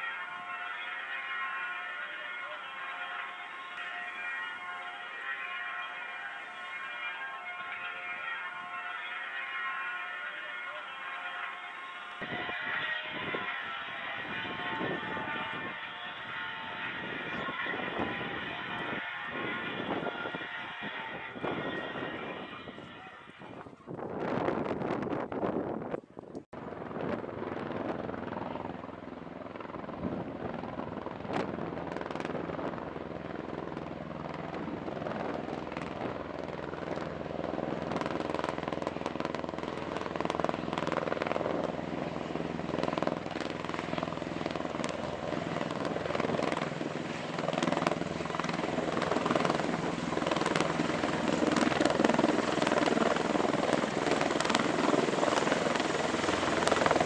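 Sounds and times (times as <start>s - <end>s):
aircraft rotor and engine noise: 0.0s - 26.0s, 26.6s - 57.0s.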